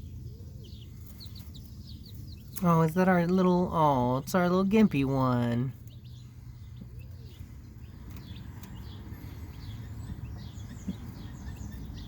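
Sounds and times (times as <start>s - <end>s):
chicks peeping: 0.0s - 12.0s
steady low hum: 0.0s - 12.0s.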